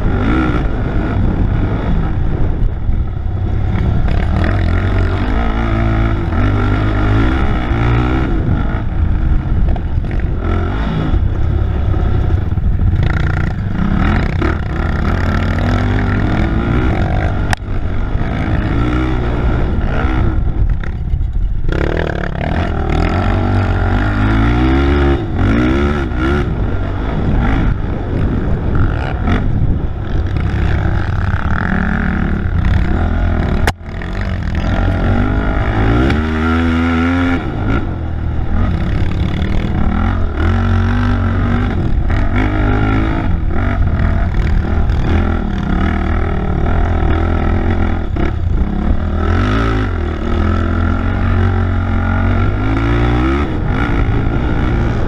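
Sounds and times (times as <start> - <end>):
quad engine revving: 0.0 - 21.0, 21.6 - 55.0.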